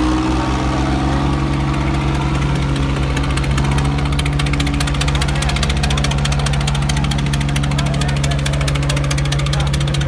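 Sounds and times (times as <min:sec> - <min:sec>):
diesel engine idling with clatter: 0:00.0 - 0:10.0.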